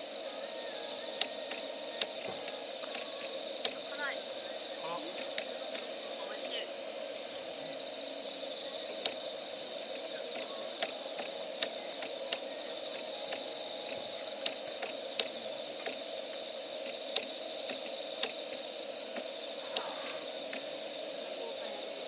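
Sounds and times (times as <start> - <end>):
high-pitched hiss: 0.0 - 22.0
wood fire crackling: 0.0 - 22.0.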